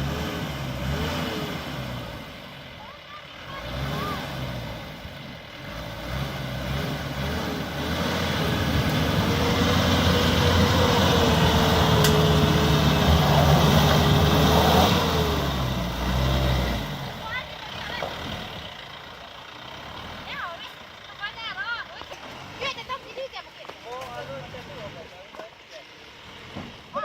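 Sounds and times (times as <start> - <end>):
vehicle engine running under load: 0.0 - 27.0.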